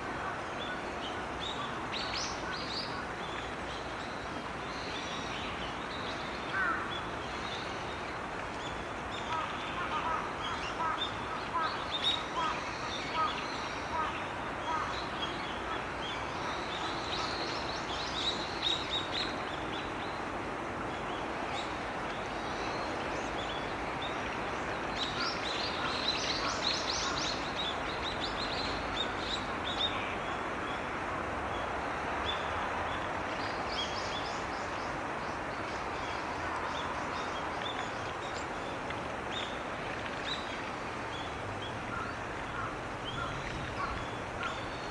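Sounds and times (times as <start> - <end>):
steady background hiss: 0.0 - 44.9.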